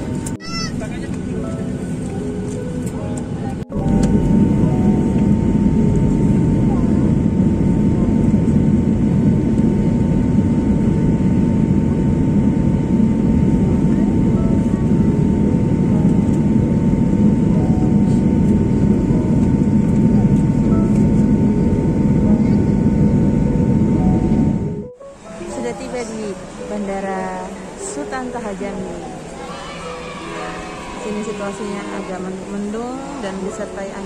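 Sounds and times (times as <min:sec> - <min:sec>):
jet engine cabin drone: 0:00.0 - 0:34.0
thin steady whine: 0:03.4 - 0:34.0.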